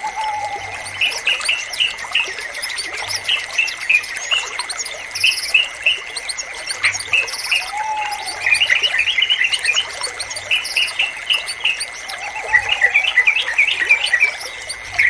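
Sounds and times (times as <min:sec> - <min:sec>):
birds chirping: 0:00.0 - 0:15.0
slurred bird whistle: 0:00.2 - 0:15.0.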